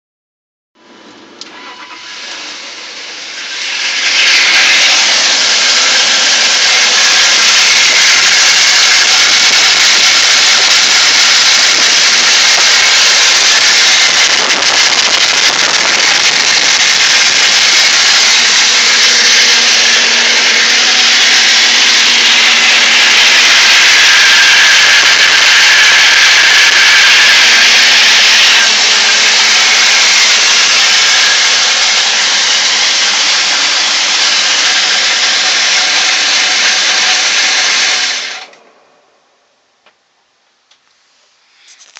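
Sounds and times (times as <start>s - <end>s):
car engine grinding: 1.4s - 38.8s.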